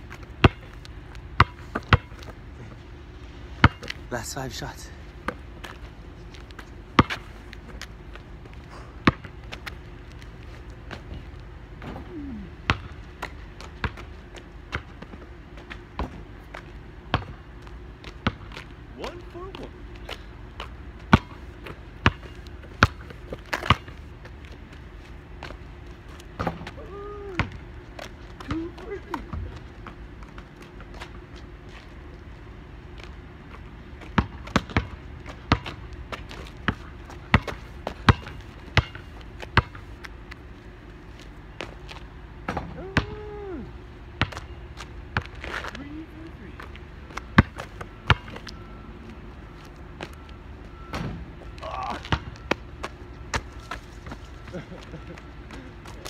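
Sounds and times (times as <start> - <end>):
basketball bouncing on asphalt: 0.0 - 2.9, 3.5 - 4.1, 5.1 - 45.8, 46.6 - 54.5.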